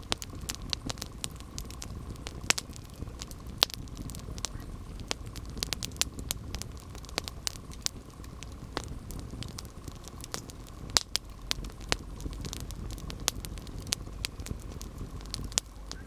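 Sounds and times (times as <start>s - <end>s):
campfire wood crackling and popping: 0.0s - 16.0s
low rumble of flames: 0.0s - 16.0s.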